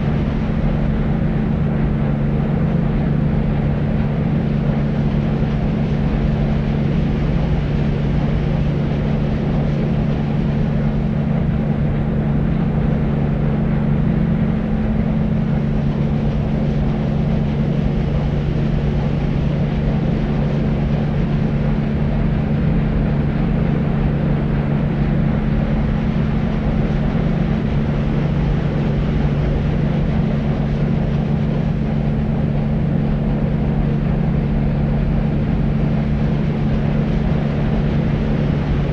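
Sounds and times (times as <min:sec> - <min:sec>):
deep white noise: 0:00.0 - 0:38.9.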